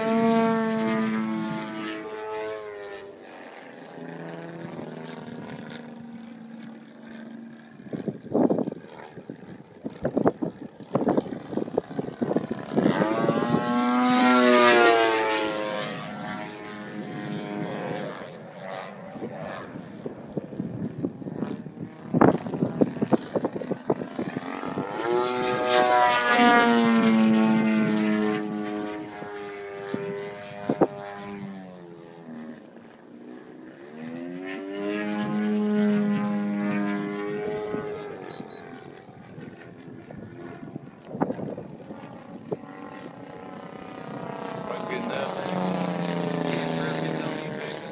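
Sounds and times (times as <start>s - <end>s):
propeller engine revving: 0.0s - 47.9s.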